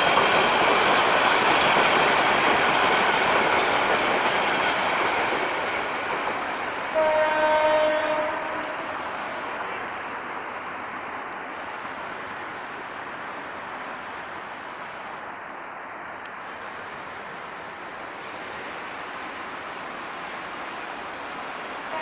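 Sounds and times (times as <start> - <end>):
train coaches rumbling on track: 0.0 - 22.0.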